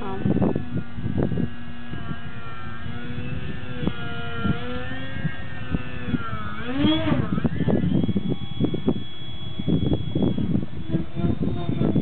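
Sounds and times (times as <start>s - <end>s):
model plane motor whining: 0.0s - 12.0s
wind buffeting microphone: 0.0s - 12.0s.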